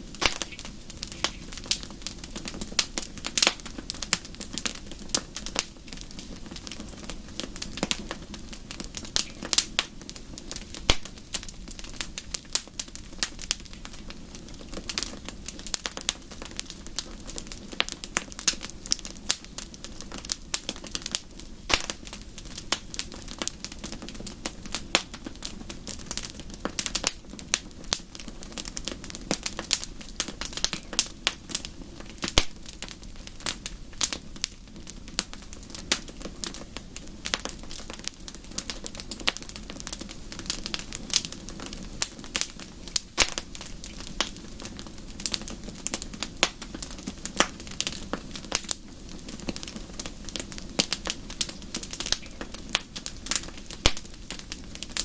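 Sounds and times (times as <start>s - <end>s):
low rush of flames: 0.0s - 55.0s
wood fire crackling and popping: 0.0s - 55.0s.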